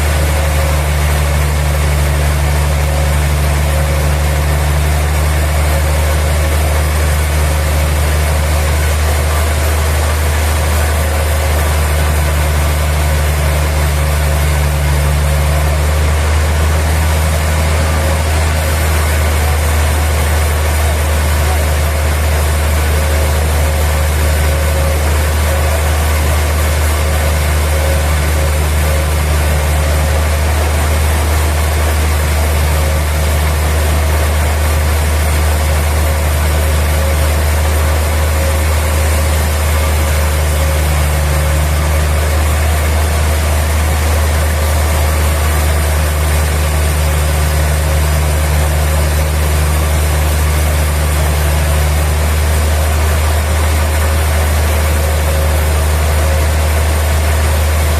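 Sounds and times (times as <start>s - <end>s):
engine droning steadily: 0.0s - 57.9s.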